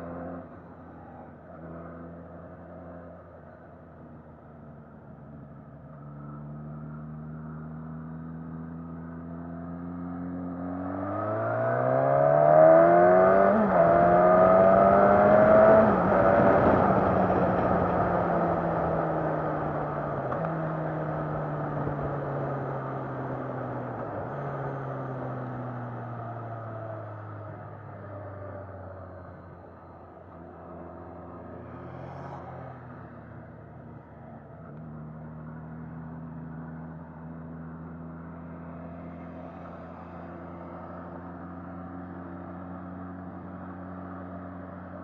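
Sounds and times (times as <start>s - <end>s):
motorcycle engine accelerating: 6.2s - 45.0s.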